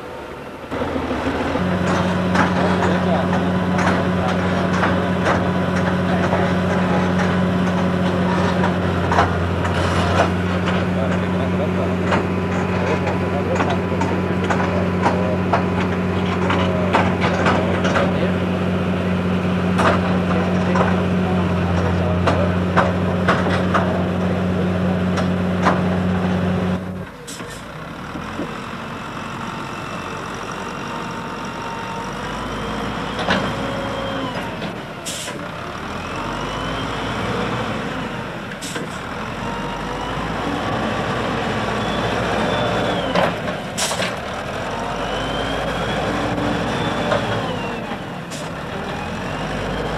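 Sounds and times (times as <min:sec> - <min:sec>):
diesel engine rumble with whine: 0:00.0 - 0:49.9.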